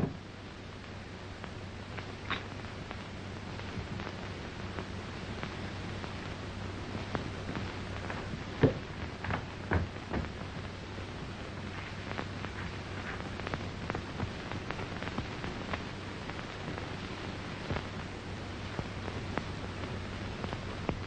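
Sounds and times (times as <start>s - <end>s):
film soundtrack hiss and crackle: 0.0s - 21.0s
steady low hum: 0.0s - 21.0s.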